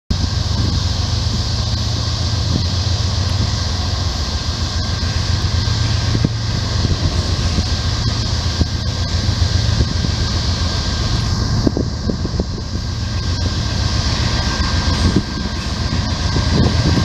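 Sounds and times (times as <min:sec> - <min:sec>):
diesel locomotive engines rumbling: 0:00.1 - 0:17.0
constant hiss: 0:00.2 - 0:17.0.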